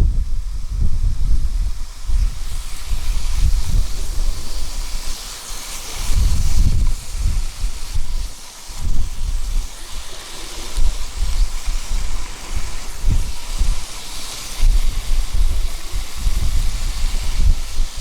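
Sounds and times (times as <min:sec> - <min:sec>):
steady hiss: 0:00.0 - 0:18.0
wind buffeting microphone: 0:00.0 - 0:18.0.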